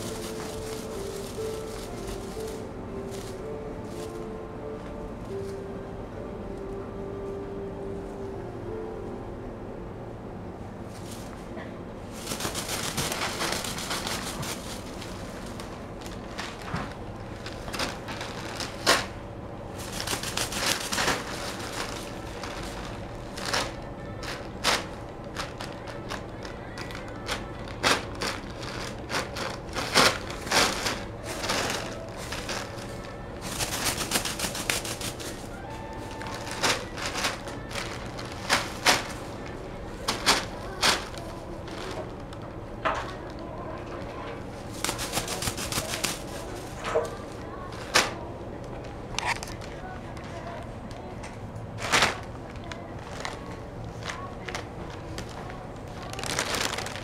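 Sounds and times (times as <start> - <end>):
plastic bag crinkling and rustling: 0.0 - 4.7, 12.1 - 51.0, 51.7 - 57.0.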